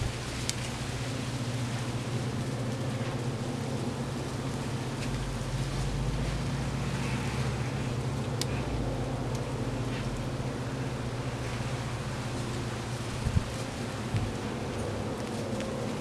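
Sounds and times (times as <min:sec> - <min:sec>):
fire crackling and popping: 0:00.0 - 0:16.0
fire hissing: 0:00.0 - 0:16.0.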